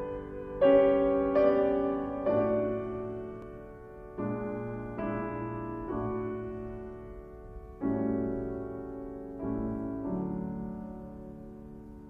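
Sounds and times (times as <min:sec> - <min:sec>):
slow soft piano chords: 0:00.0 - 0:12.0.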